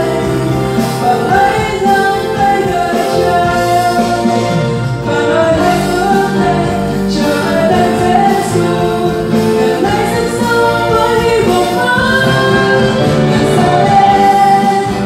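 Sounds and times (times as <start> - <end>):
woman singing into a microphone: 0.0 - 4.4, 5.1 - 15.0
band playing: 0.0 - 15.0.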